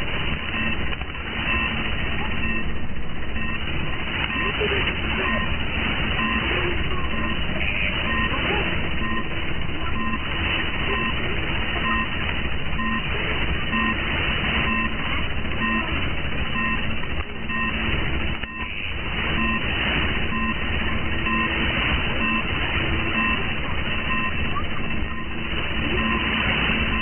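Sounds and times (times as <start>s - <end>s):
radio static: 0.0s - 27.0s.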